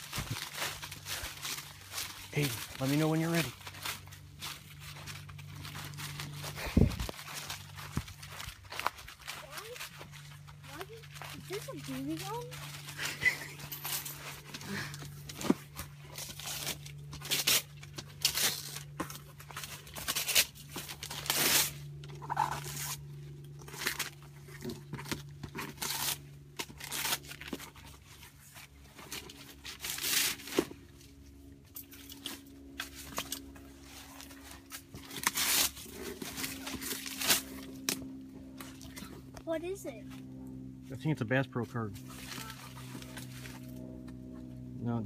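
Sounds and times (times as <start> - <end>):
wrapping paper tearing and crumpling: 0.0 - 31.0, 31.8 - 38.0, 42.0 - 43.7.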